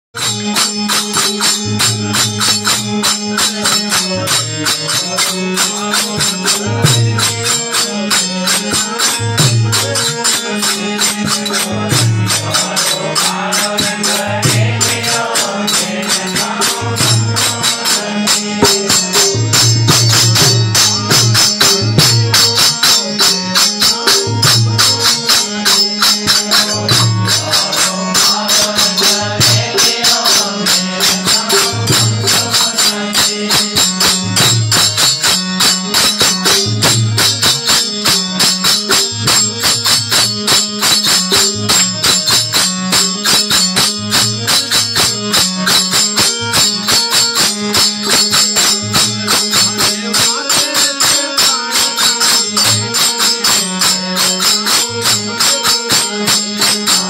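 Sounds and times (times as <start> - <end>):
tabla fast rhythm: 0.1 - 57.0
harmonium chords: 0.2 - 57.0
jingling hand percussion: 0.2 - 57.0.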